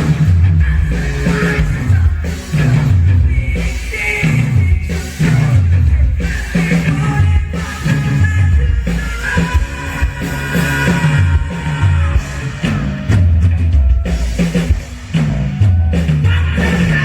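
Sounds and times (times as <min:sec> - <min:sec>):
bass line: 0:00.0 - 0:17.0
drum kit: 0:00.0 - 0:17.0
live rock band: 0:00.0 - 0:17.0.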